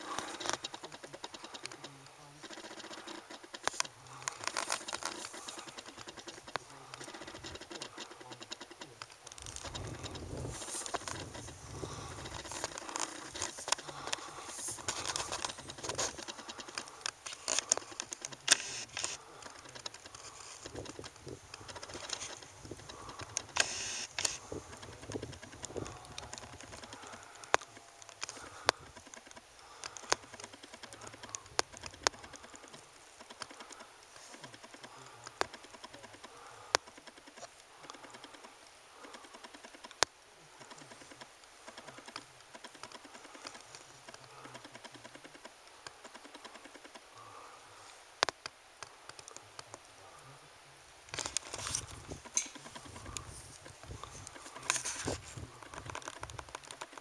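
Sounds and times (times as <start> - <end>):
faint rustling: 0.0 - 57.0.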